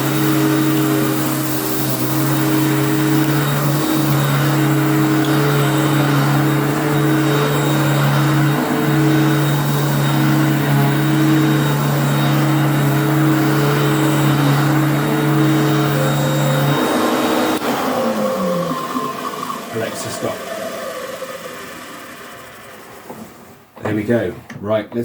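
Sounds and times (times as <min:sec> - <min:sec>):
upright vacuum cleaner running: 0:00.0 - 0:24.0.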